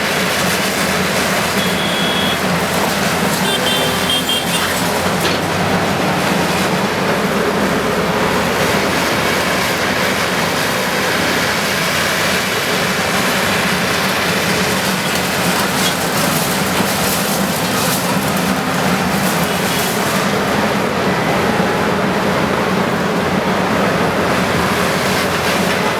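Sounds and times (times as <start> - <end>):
heavy machinery running: 0.0 - 25.9.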